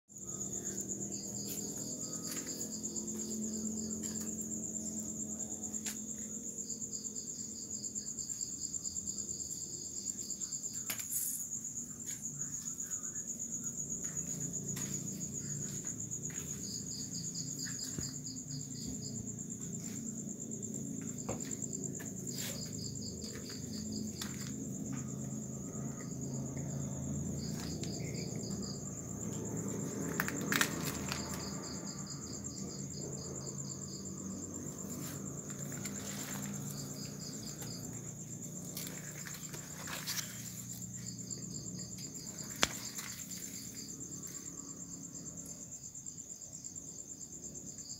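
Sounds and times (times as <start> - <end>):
insect chirping in pulsed runs: 0.1 - 47.9
insect pulsing trill: 0.1 - 47.9.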